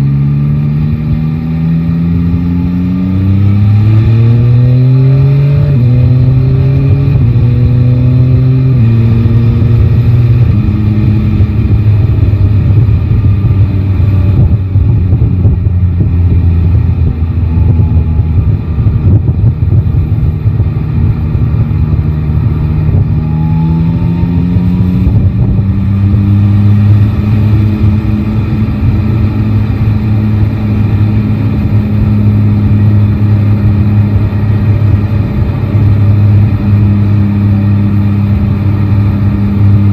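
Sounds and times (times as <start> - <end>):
motorcycle engine revving and shifting: 0.0 - 39.9
wind buffeting microphone: 5.8 - 39.9.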